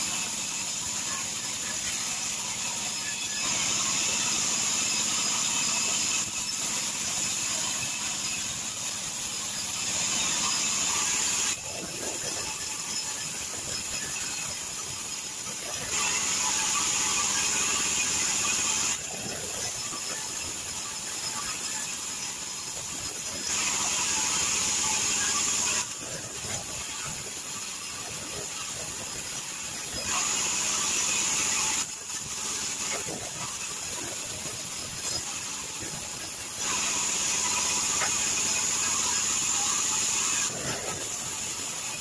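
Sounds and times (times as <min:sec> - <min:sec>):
band saw cutting log: 0:00.0 - 0:42.0.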